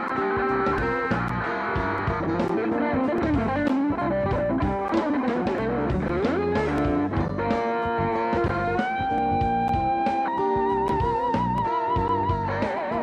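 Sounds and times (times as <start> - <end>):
electric guitar lead lick: 0.0 - 13.0.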